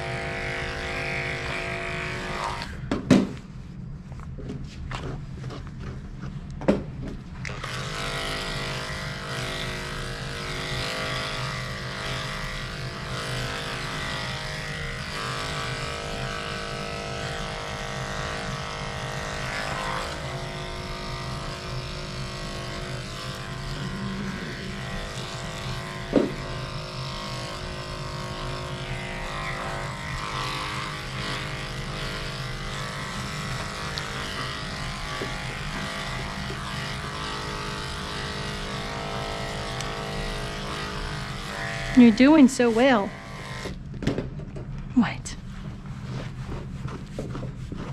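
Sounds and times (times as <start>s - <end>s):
electric clippers running: 0.0s - 2.9s, 7.3s - 44.8s.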